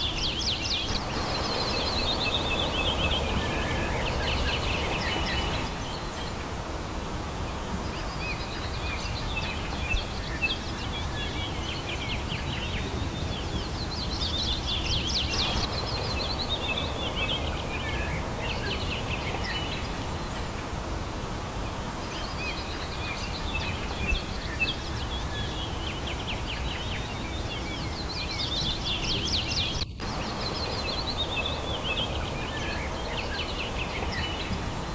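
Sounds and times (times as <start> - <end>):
open-air ambience hiss: 0.0 - 34.9
songbirds trilling: 0.0 - 34.9.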